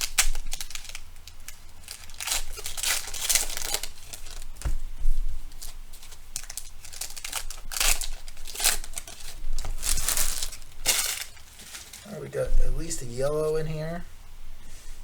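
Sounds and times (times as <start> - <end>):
wrappers tearing and crinkling: 0.0 - 12.2.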